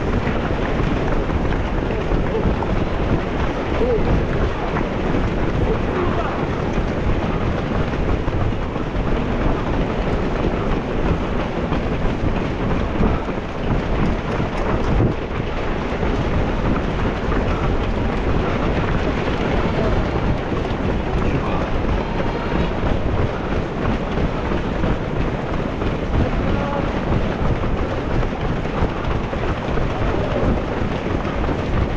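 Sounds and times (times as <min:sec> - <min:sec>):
strong wind buffeting microphone: 0:00.0 - 0:31.9.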